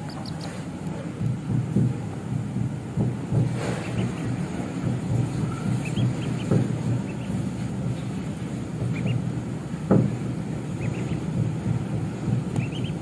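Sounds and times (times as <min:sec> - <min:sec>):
baby chicks peeping: 0:00.0 - 0:01.3, 0:03.3 - 0:13.0
steady low rumble: 0:00.0 - 0:13.0
dull thumps: 0:01.2 - 0:13.0.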